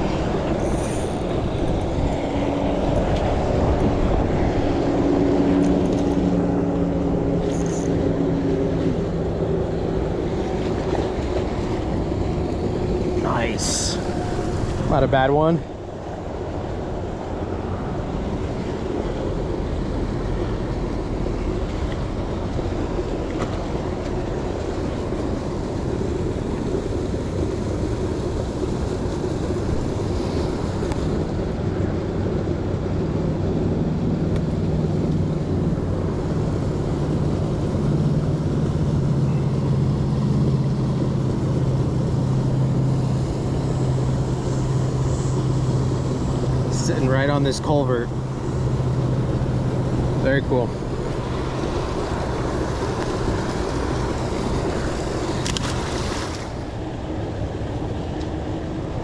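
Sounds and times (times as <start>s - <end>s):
low steady hum: 0.0s - 59.0s
steady rushing noise: 0.0s - 59.0s.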